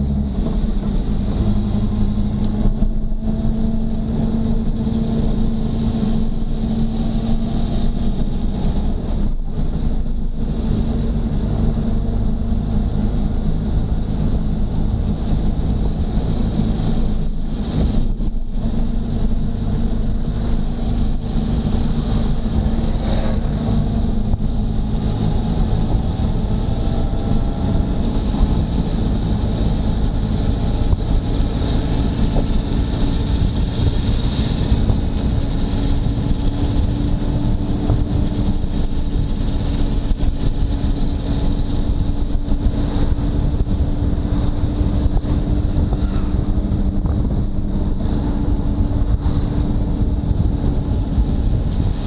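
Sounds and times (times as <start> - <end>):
motorcycle engine cruising: 0.0 - 52.0
wind rushing over microphone: 0.0 - 52.0.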